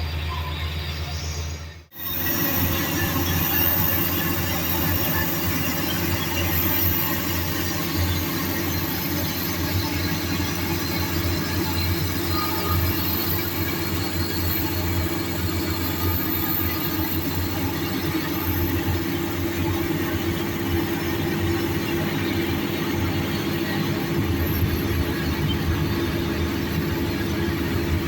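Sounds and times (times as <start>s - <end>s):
heavy machinery diesel engines: 0.0s - 28.0s.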